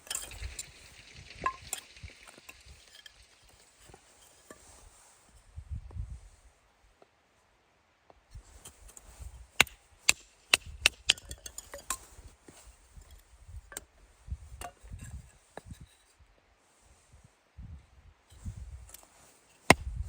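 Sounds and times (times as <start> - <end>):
rustling and handling: 0.0 - 5.5, 8.4 - 17.4, 18.3 - 20.0.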